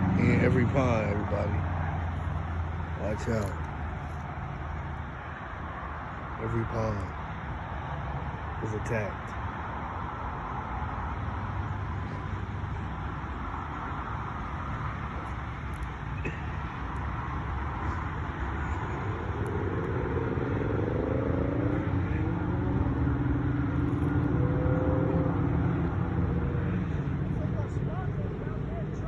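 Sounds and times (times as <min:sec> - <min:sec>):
steady low rumble: 0:00.0 - 0:29.0
vehicle engine hum: 0:00.0 - 0:29.0.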